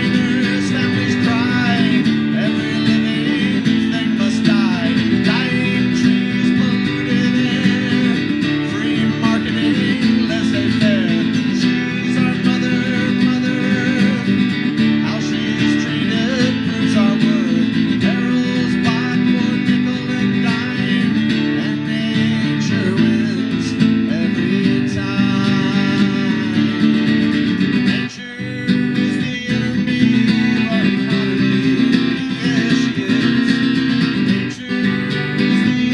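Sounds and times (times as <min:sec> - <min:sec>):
acoustic guitar strumming: 0:00.0 - 0:35.9
man singing: 0:00.0 - 0:35.9.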